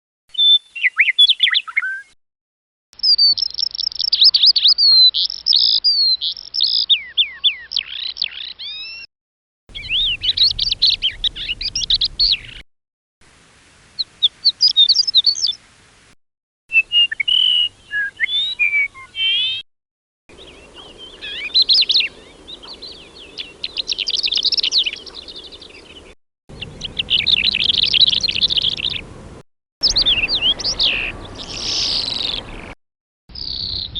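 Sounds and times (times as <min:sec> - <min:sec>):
songbirds chirping and trilling: 0:00.3 - 0:02.2, 0:03.0 - 0:09.1, 0:09.7 - 0:12.6, 0:16.7 - 0:19.6, 0:20.3 - 0:33.9.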